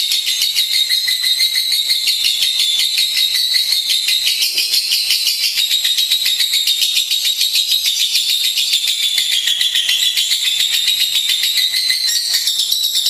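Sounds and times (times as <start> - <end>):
lovebird chattering trill: 0.0 - 13.0.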